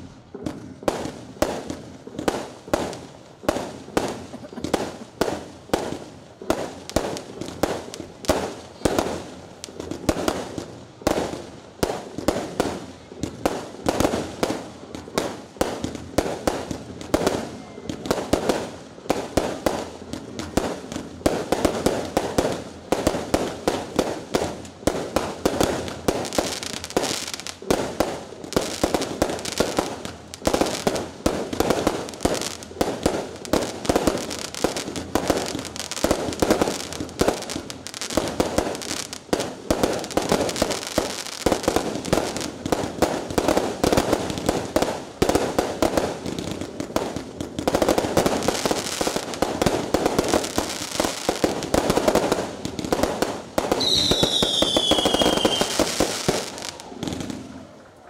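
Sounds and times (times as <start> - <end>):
crackling hiss: 0.0 - 58.0
fireworks bangs: 0.0 - 58.0.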